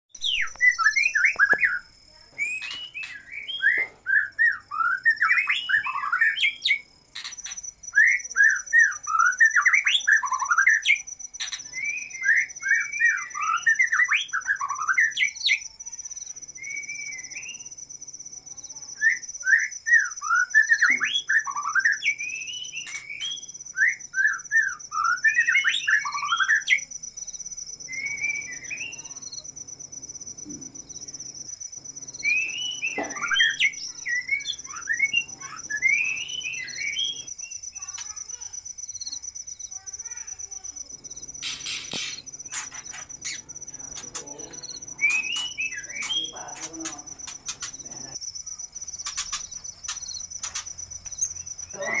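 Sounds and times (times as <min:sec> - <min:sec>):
cricket chirring: 0:00.1 - 0:52.0.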